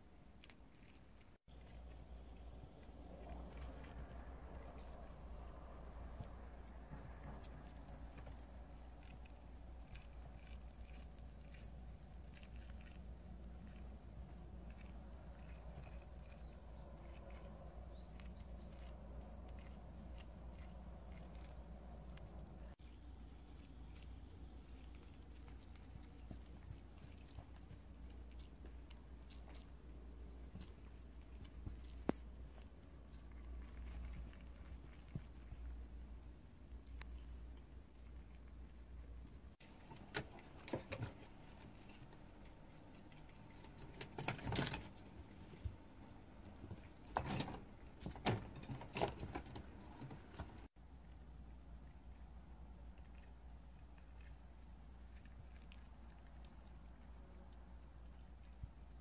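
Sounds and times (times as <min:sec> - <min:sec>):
prairie dog chewing grass: 0:00.0 - 0:59.0.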